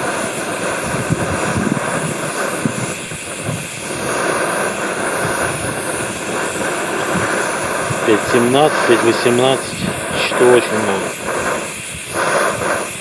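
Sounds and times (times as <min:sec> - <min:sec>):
gas stove hissing: 0:00.0 - 0:13.0
wind buffeting microphone: 0:00.0 - 0:13.0.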